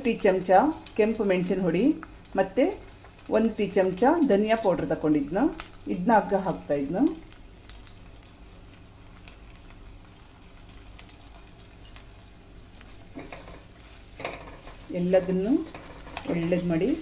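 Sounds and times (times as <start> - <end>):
hot oil sizzling: 0.0 - 17.0.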